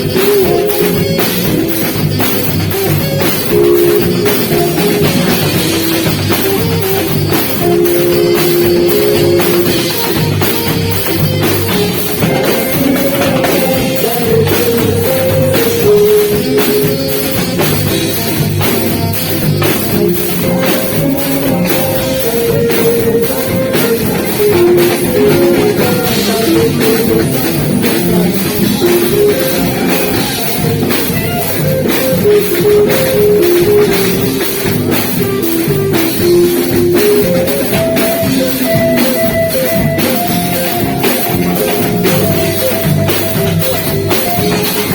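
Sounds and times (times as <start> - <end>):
drum kit: 0.0 - 44.9
guitar: 0.0 - 44.9
live band dance music: 0.0 - 44.9
saxophone melody: 0.0 - 44.9.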